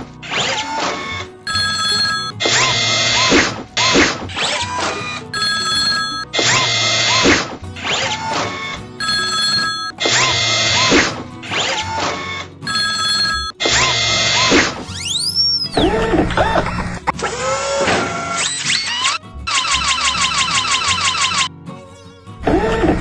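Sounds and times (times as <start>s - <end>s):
cartoon background music: 0.0s - 23.0s.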